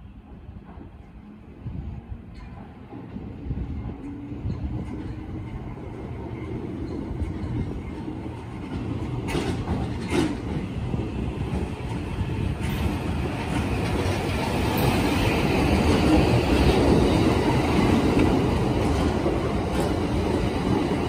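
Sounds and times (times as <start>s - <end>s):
subway train running past: 0.0s - 21.0s.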